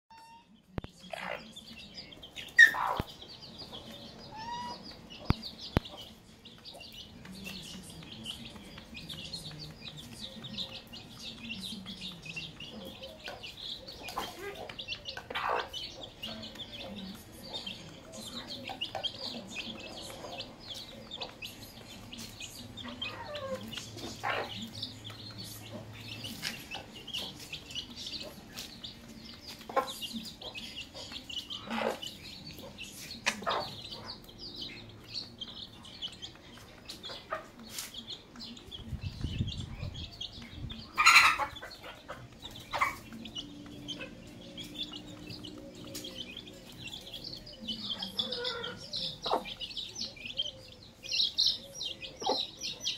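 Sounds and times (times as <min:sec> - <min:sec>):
chicks peeping: 0:00.1 - 0:52.9
hens clucking: 0:01.0 - 0:52.9.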